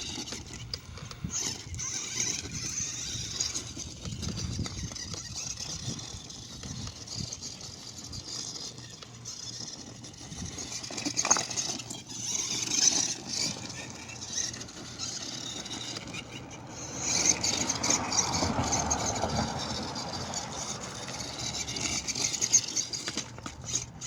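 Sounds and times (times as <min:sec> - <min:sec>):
chassis and tyres rattling on terrain: 0:00.0 - 0:24.0
electric motor and gears whining: 0:00.0 - 0:24.0.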